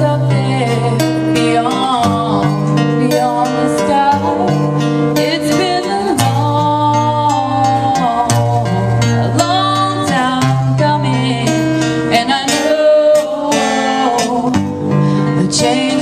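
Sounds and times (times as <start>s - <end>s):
guitar song: 0.0s - 16.0s.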